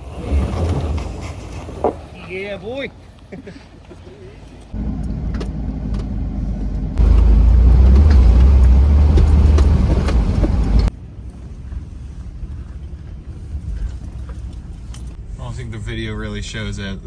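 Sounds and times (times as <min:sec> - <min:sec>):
steady vehicle rumble: 0:00.0 - 0:17.0.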